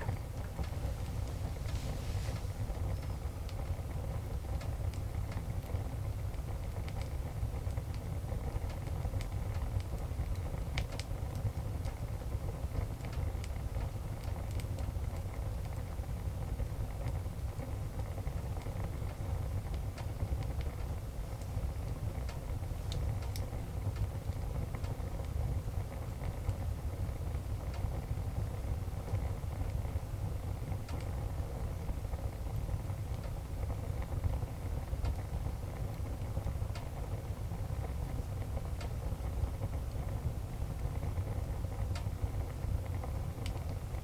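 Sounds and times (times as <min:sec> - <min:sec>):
fire low rumble: 0:00.0 - 0:44.0
wood fire crackling and popping: 0:00.0 - 0:44.0.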